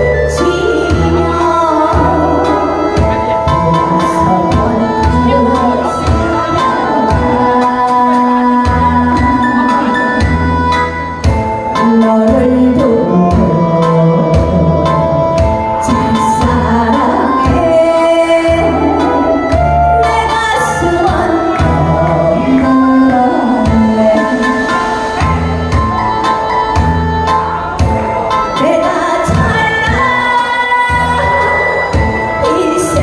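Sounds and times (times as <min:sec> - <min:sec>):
woman singing mournful song: 0:00.0 - 0:27.2, 0:28.5 - 0:33.0
backing track with pulsing bass: 0:00.0 - 0:33.0.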